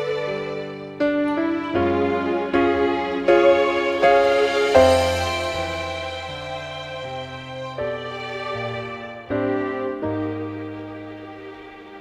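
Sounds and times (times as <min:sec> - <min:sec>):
soft slow background music: 0:00.0 - 0:12.0.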